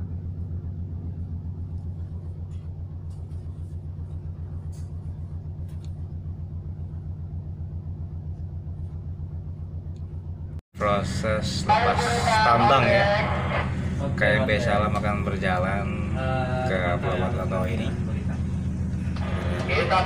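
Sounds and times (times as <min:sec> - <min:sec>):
ferry engines rumbling: 0:00.0 - 0:20.0.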